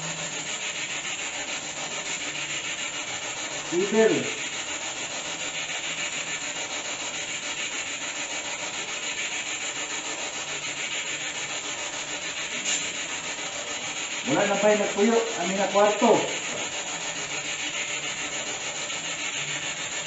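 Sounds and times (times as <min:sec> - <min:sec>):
pulsing hissing static: 0:00.0 - 0:20.0.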